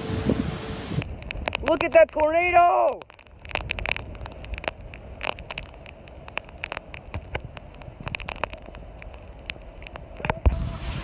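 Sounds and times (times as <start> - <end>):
low rumble of wind: 0.0 - 11.0
crackling clicks: 0.9 - 10.6.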